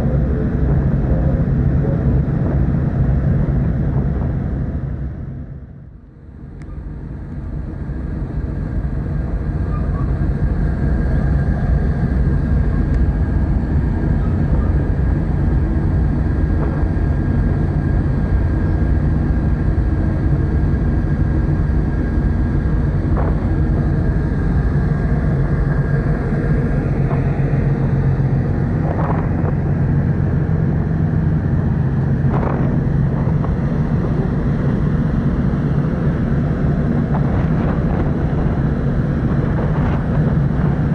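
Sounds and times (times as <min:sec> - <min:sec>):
ship engines droning: 0:00.0 - 0:40.9.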